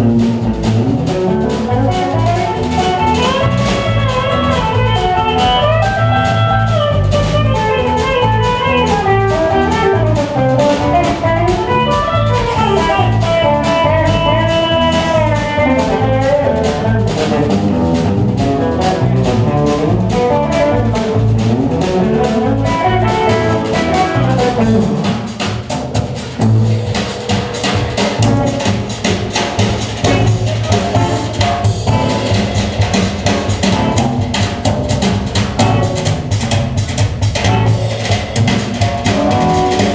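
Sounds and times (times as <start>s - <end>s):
fast drum hits: 0.0s - 39.9s
live band playing: 0.0s - 39.9s.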